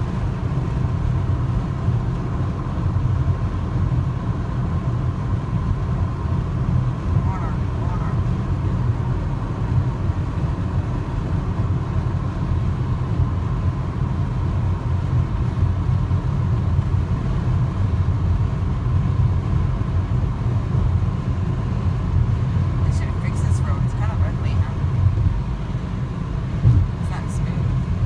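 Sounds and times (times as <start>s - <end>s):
car engine rumble: 0.0s - 28.0s
faint steady whine: 0.0s - 28.0s
tyre and road noise: 0.0s - 28.0s.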